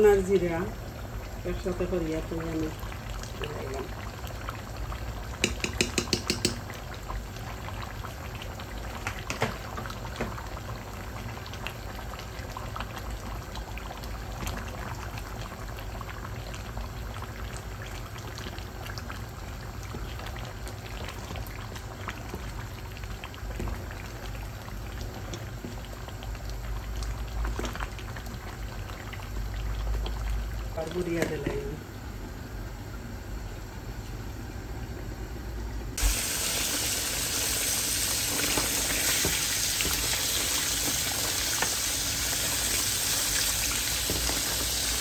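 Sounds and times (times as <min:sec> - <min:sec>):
pot bubbling: 0:00.0 - 0:45.0.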